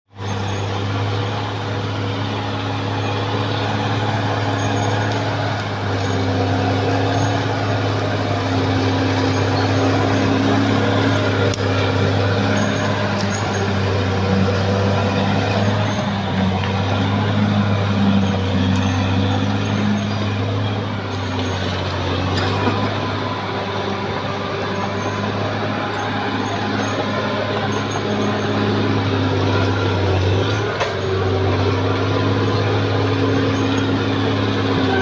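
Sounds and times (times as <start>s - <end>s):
bulldozer diesel engine running: 0.1s - 35.0s.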